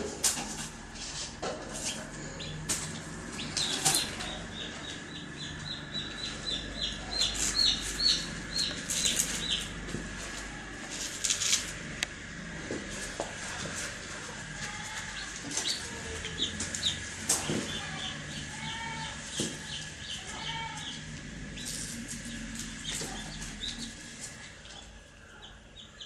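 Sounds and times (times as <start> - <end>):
rustling and scratching: 0.0 - 4.5, 7.2 - 21.0, 21.6 - 24.6
baby chicks cheeping: 1.7 - 26.0.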